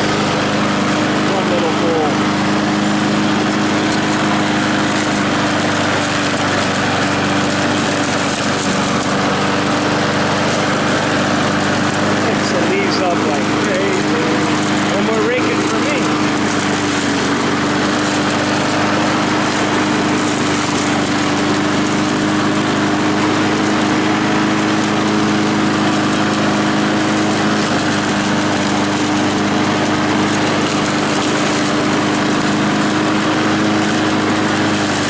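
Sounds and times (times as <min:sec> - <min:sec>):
lawn mower engine running: 0:00.0 - 0:35.0.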